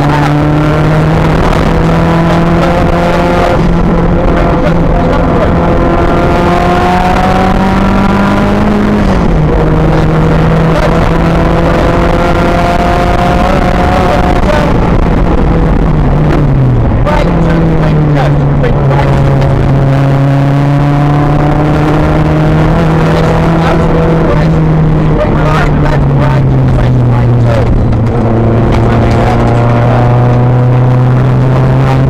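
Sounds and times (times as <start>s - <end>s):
rally car engine running hard: 0.0s - 32.0s
road and cabin noise: 0.0s - 32.0s.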